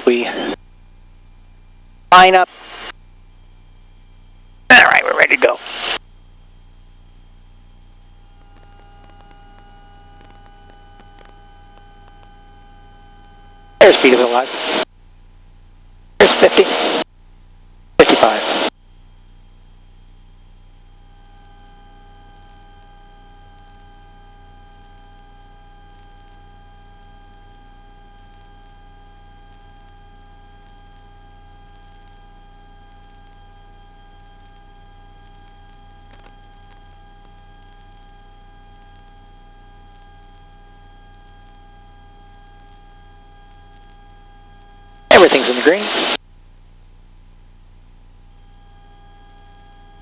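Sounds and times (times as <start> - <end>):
high-pitched electronic whine: 1.2 - 14.9, 18.0 - 46.2, 48.0 - 50.0.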